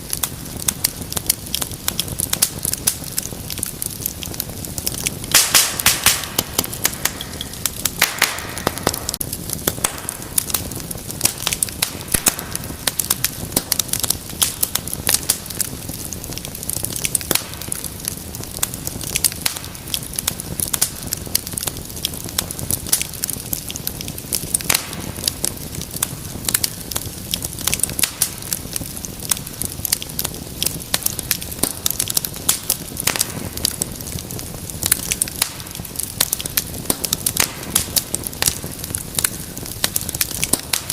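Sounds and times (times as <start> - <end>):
rush of flame: 0.0 - 40.9
wood fire crackling and popping: 0.0 - 40.9.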